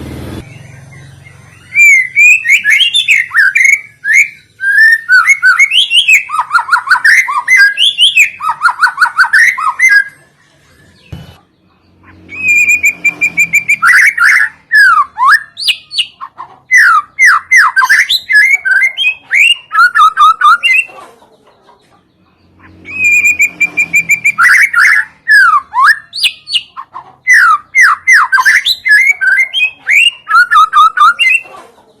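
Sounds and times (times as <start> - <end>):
birdsong whistles and trills: 0.4 - 32.0.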